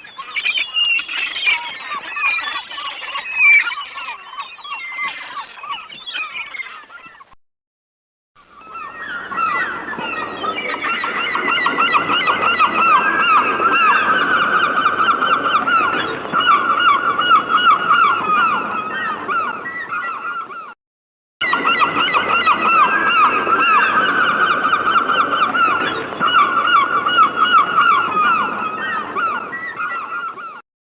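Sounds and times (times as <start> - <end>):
flock of birds calling: 0.0 - 7.4, 8.5 - 20.8, 21.4 - 30.6.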